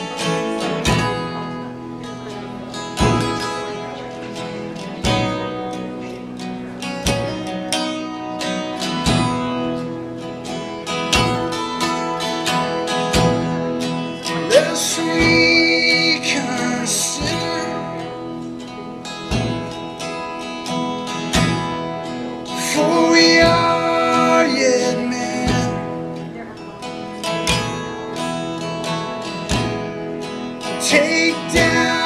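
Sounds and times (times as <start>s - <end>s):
acoustic guitars strumming: 0.0s - 32.0s.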